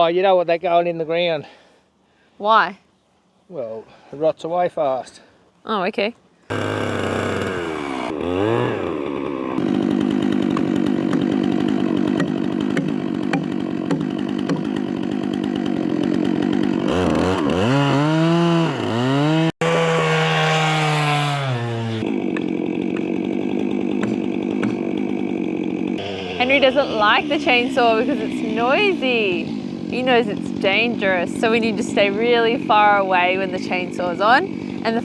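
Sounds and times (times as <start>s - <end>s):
chainsaw cutting through log: 6.5s - 35.0s.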